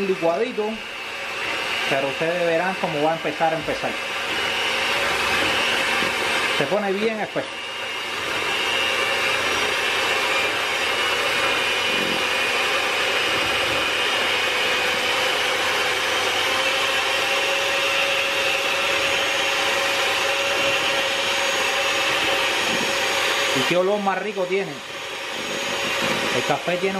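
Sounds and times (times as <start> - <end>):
electric hand mixer whining: 0.0 - 26.9.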